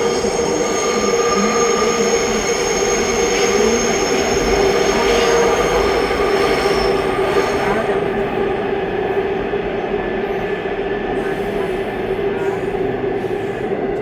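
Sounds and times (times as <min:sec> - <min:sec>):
subway train rumbling on track: 0:00.0 - 0:14.0.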